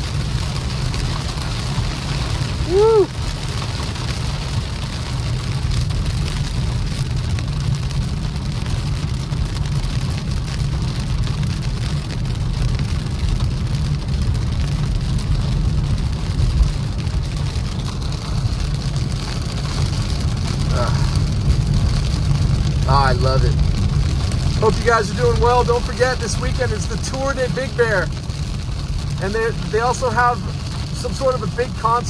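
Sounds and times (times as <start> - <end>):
car road rumble on wet road: 0.0 - 32.0
rain hissing on car: 0.0 - 32.0.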